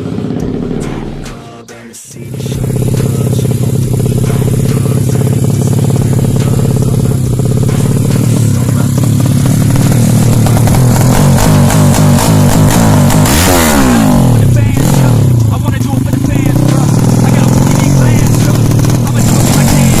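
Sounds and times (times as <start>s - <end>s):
motorbike engine running loud: 0.0s - 1.4s, 2.2s - 20.0s.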